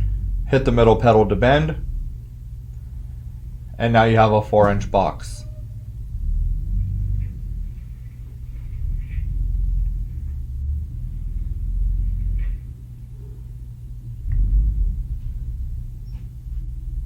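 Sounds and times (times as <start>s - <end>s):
folding machine rumbling: 0.0s - 17.0s.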